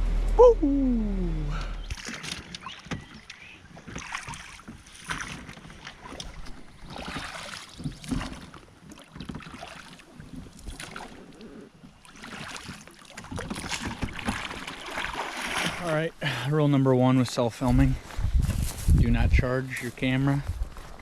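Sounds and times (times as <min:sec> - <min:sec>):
water splashing and sloshing: 0:01.2 - 0:21.0.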